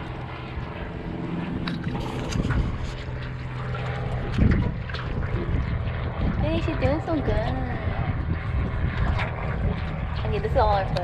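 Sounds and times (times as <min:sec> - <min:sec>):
low motor drone: 0:00.0 - 0:11.0
wind buffeting microphone: 0:00.0 - 0:11.0.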